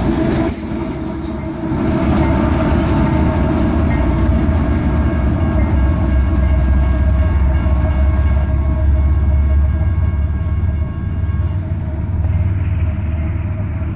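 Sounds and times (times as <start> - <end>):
locomotive engine rumble: 0.0 - 13.9.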